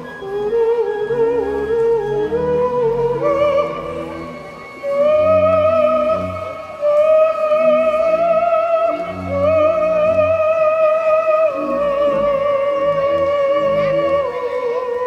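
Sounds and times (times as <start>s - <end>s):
sustained high melodic line: 0.0s - 15.0s.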